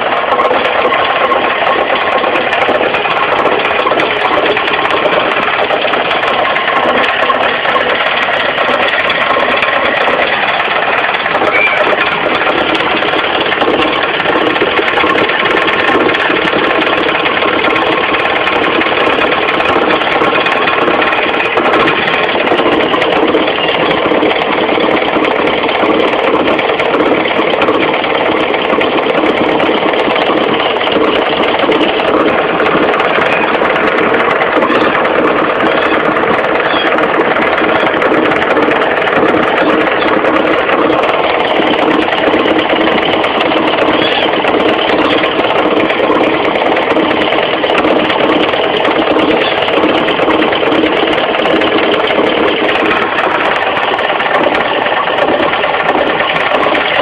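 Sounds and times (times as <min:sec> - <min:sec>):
car engine idling: 0:00.0 - 0:57.0
knocking rattle from engine pulley: 0:00.0 - 0:57.0.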